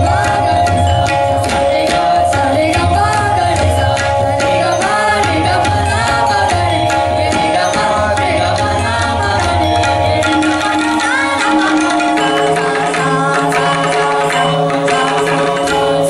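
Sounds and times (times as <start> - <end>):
held melodic accompaniment: 0.0 - 16.0
tabla playing: 0.0 - 16.0.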